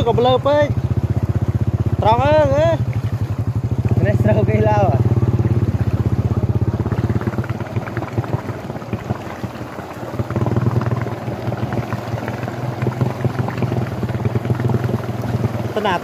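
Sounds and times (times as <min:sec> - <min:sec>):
diesel engine chugging: 0:00.0 - 0:16.0
water sloshing: 0:00.0 - 0:16.0.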